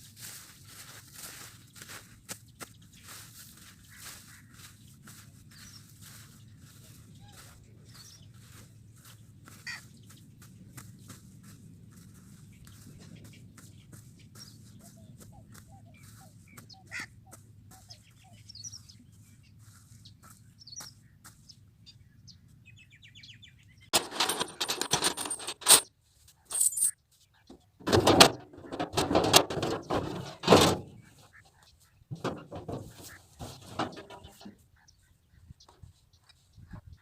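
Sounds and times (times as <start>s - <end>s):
small birds chirping: 0.2s - 24.0s, 30.9s - 37.0s.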